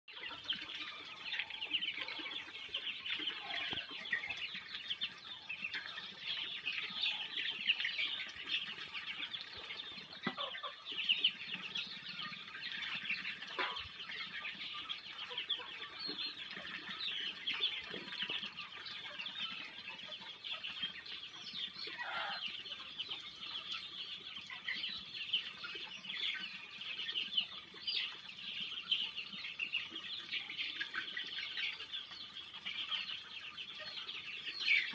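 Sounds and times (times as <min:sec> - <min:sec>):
ducklings peeping: 0:00.1 - 0:34.9.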